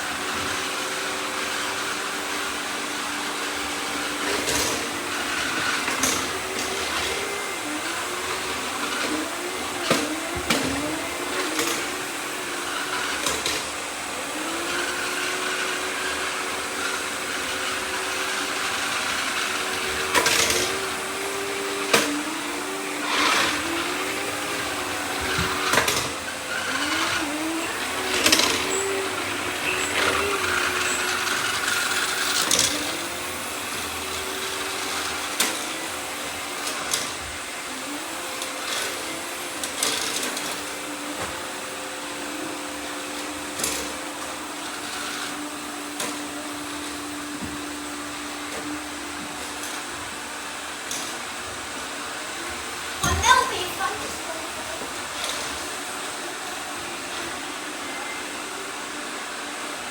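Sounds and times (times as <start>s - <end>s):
robot vacuum cleaners whirring: 0.0s - 59.9s.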